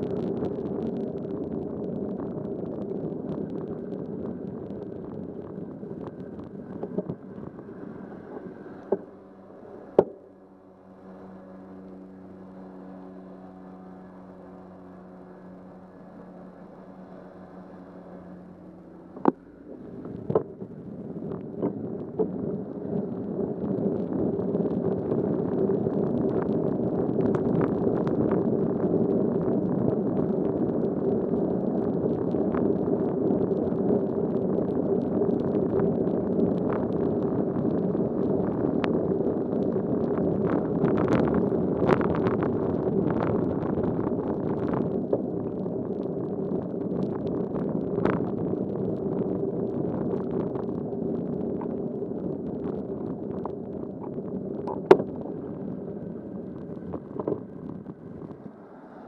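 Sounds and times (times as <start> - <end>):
bicycle tyre noise on wet road: 0.0 - 59.0
faint low hum: 0.0 - 59.0
wind rush on microphone: 0.0 - 59.0.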